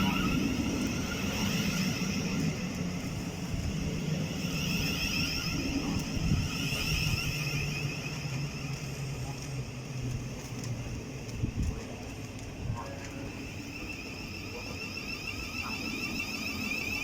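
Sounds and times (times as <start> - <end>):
electric train whine and hum: 0.0 - 17.0.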